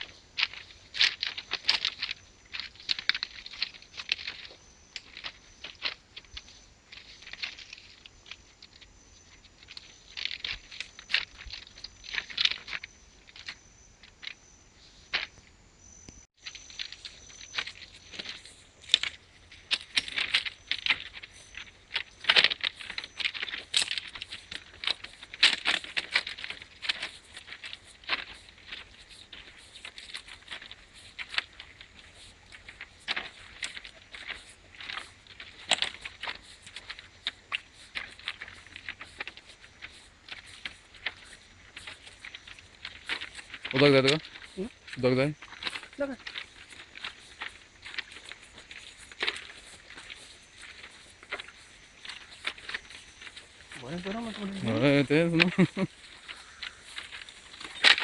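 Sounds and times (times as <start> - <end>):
footsteps crunching on gravel: 0.0 - 15.4, 16.3 - 58.0.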